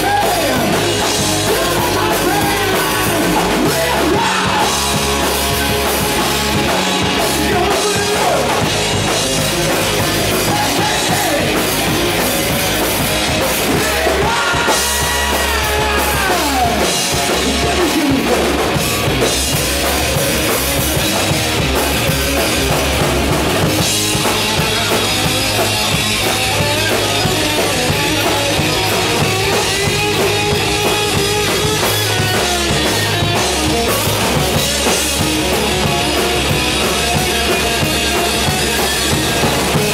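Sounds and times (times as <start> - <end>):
bass guitar: 0.0 - 39.9
distorted electric guitars: 0.0 - 39.9
drum kit beat: 0.0 - 39.9.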